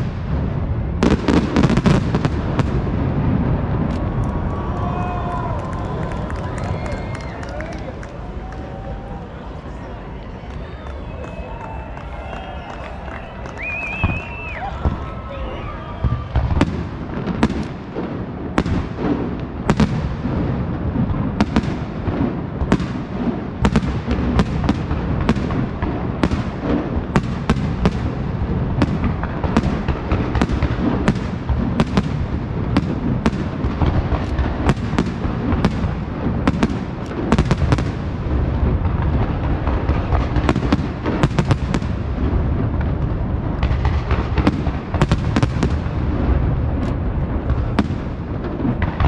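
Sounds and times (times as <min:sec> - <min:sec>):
fireworks bangs: 0:00.0 - 0:49.0
continuous low rumble: 0:02.0 - 0:49.0.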